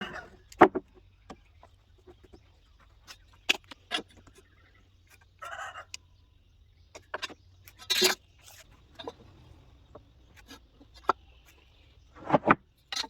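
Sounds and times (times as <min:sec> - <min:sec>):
chickens clucking: 0:00.0 - 0:12.6.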